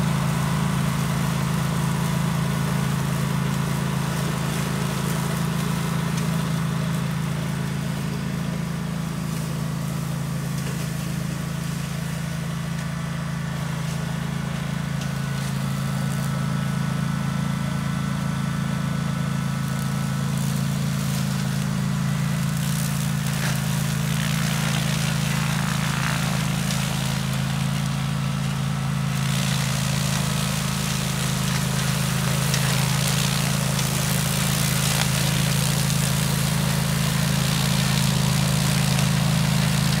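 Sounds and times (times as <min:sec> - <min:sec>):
brush cutter engine running: 0:00.0 - 0:40.0.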